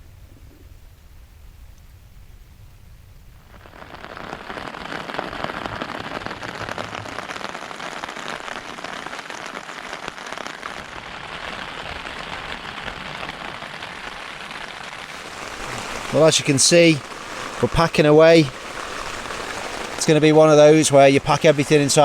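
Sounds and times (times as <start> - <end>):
heavy rain on a tent: 3.4 - 22.0.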